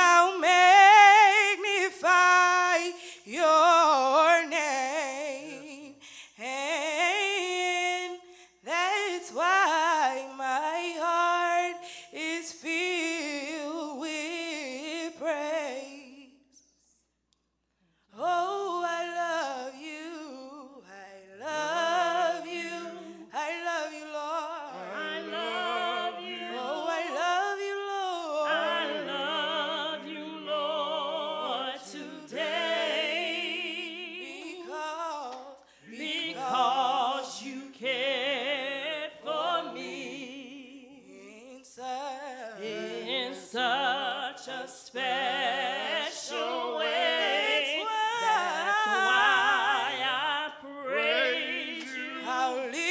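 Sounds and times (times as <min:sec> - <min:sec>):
group singing gospel song: 0:00.0 - 0:16.6, 0:18.1 - 0:52.9.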